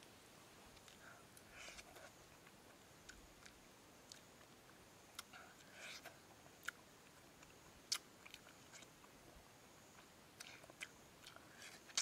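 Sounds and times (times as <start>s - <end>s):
fruit being chewed: 0.7s - 12.0s.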